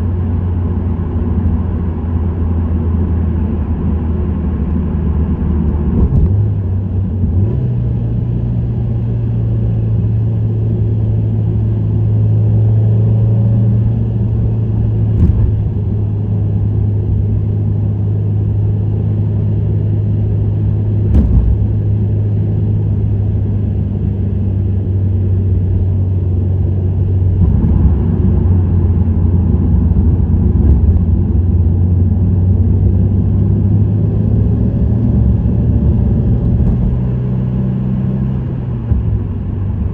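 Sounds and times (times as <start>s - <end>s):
car exhaust droning: 0.0s - 39.9s
tyre and road noise: 3.5s - 39.9s.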